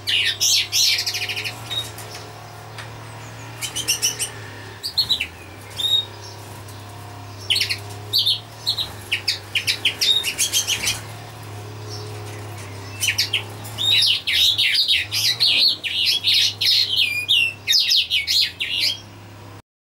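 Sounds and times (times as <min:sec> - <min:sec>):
small birds chirping: 0:00.0 - 0:19.6
steady low hum: 0:00.0 - 0:19.6.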